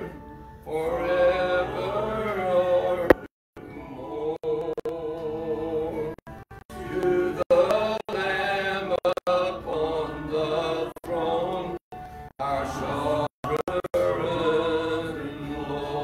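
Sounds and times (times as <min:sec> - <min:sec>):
worship song with music: 0:00.0 - 0:16.0.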